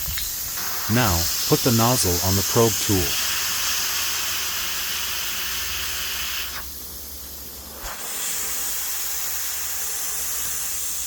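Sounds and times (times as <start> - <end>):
air hissing from tire: 0.0 - 11.0.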